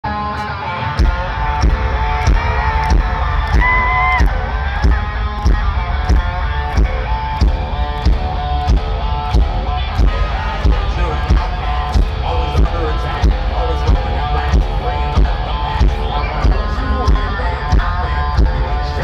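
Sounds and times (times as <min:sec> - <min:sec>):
electric guitars holding long notes: 0:00.0 - 0:19.0
heavy booming bass: 0:01.0 - 0:19.0
steady drum beat: 0:01.0 - 0:19.0.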